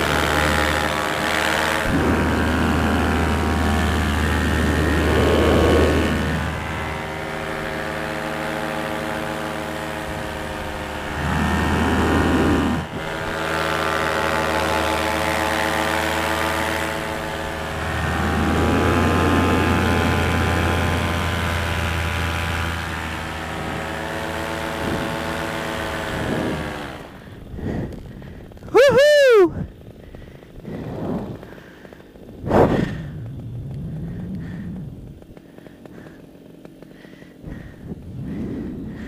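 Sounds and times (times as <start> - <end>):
wind rushing over microphone: 0.0 - 35.3, 37.4 - 39.0
paramotor engine and propeller: 0.0 - 39.0.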